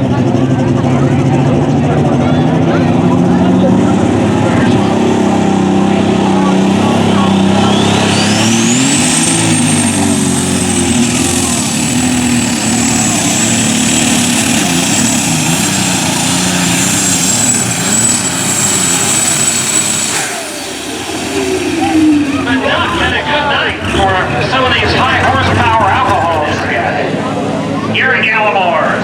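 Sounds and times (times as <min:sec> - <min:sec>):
tractor engine at full power: 0:00.0 - 0:29.0
turbocharger whine: 0:00.0 - 0:29.0.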